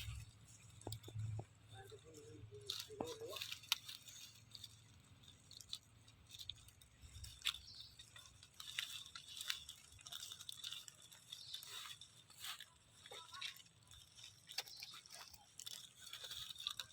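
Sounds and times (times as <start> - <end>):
monkey chewing food: 0.0 - 16.9.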